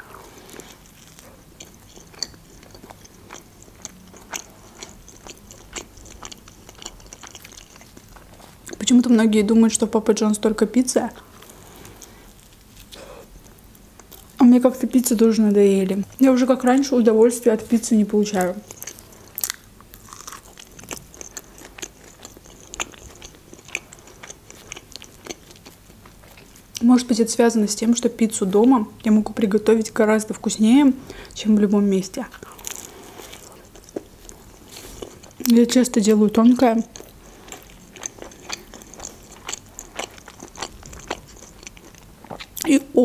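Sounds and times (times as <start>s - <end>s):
chewing food: 0.0s - 10.0s, 11.1s - 17.0s, 17.7s - 26.8s, 32.3s - 43.0s.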